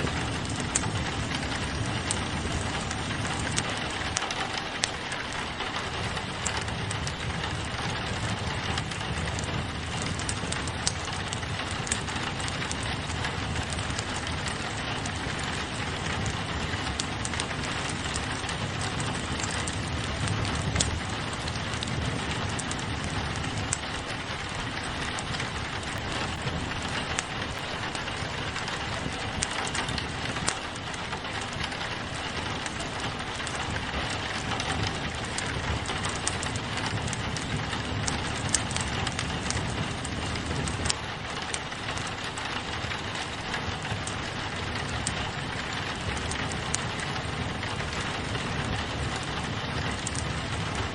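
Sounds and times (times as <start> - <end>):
rain pattering on a window: 0.0 - 50.9
wood fire crackling: 0.0 - 50.9.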